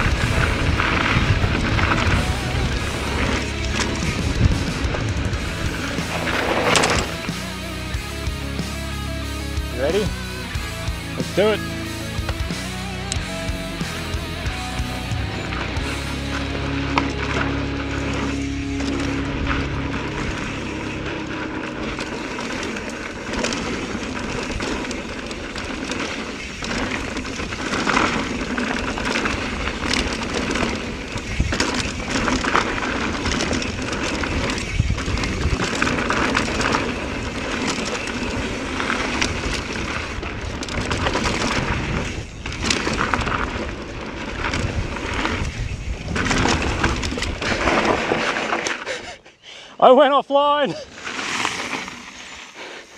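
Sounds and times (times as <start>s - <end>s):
bike knocking and rattling: 0.0s - 49.2s, 50.4s - 52.9s
bike tyres clattering over rock: 0.0s - 49.2s, 50.5s - 52.8s.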